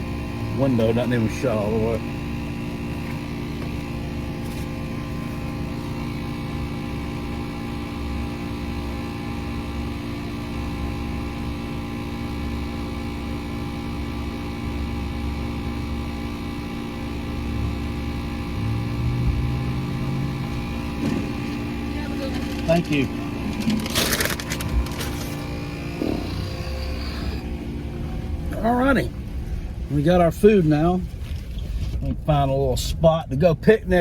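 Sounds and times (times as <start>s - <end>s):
vehicle idling inside cabin: 0.0s - 34.0s.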